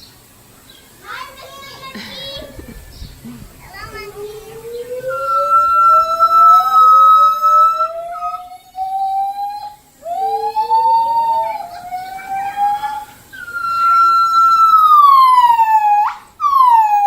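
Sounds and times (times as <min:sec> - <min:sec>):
gibbons hooting: 0:01.2 - 0:17.0.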